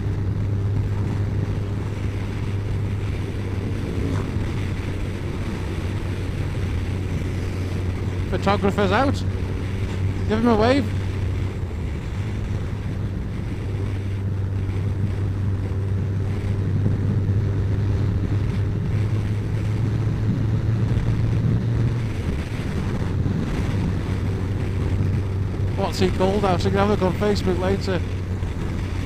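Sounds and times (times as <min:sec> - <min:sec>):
motorcycle engine cruising: 0:00.0 - 0:29.0
wind rushing over microphone: 0:00.0 - 0:29.0.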